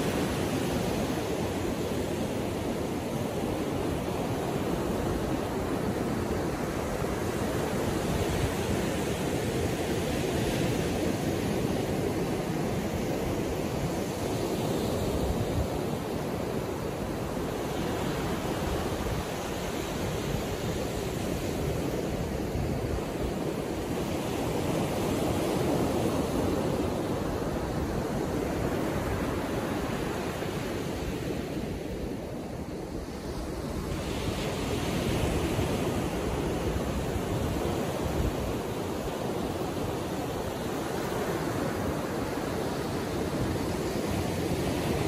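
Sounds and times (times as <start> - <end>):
ocean surf breaking on beach: 0.0 - 45.0.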